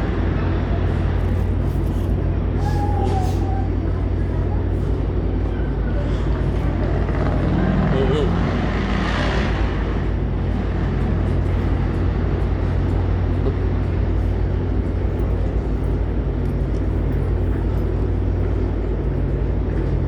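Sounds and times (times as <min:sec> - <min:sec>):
diesel train running past: 0:00.0 - 0:20.0.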